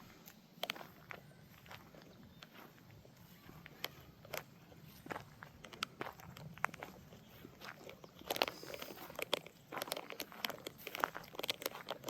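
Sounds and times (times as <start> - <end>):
footsteps walking: 0.0 - 12.0
crackling clicks and crunches: 0.2 - 12.0.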